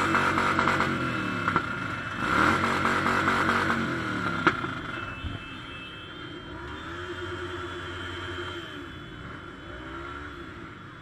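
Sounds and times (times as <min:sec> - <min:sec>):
motorcycle engines revving: 0:00.0 - 0:05.0, 0:06.2 - 0:11.0.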